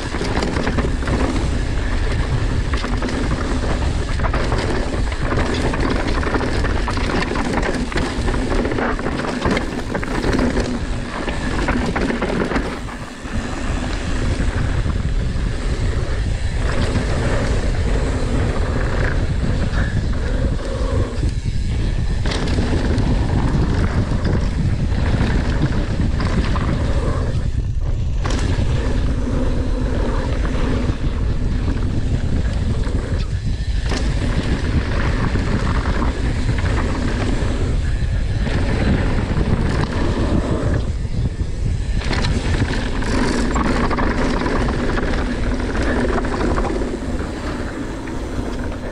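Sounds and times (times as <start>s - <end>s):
bike tyres rolling on dirt: 0.0s - 48.9s
wind over microphone: 0.0s - 48.9s.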